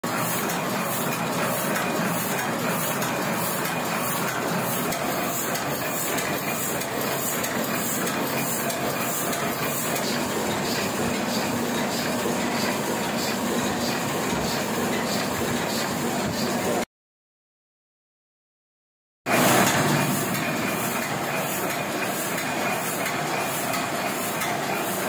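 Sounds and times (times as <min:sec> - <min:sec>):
printing press clattering: 0:00.1 - 0:16.8, 0:19.3 - 0:25.0.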